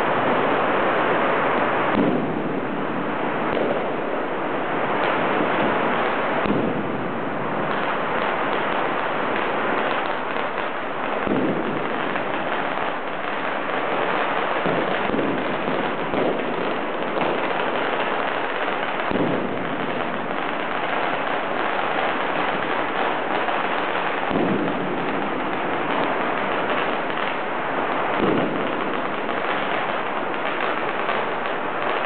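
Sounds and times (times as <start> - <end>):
firecrackers crackling: 0.0 - 32.0
loud firework bangs: 0.0 - 32.0.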